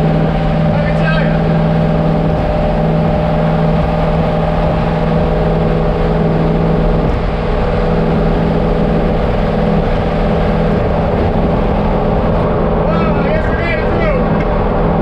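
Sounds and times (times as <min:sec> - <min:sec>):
car engine running steadily: 0:00.0 - 0:15.0.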